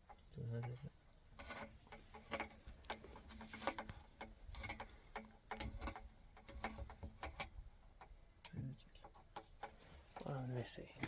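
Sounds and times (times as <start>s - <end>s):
light clicks and taps: 0.1s - 10.3s.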